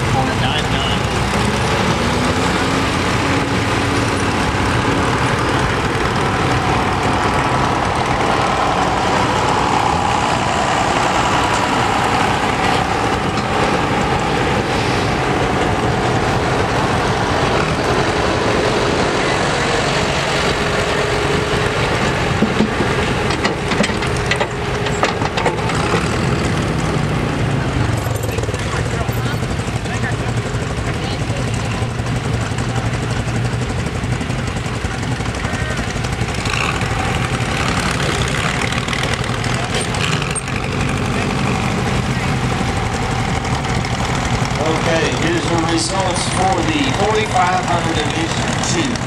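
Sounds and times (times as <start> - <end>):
tractor engines running: 0.0 - 49.0.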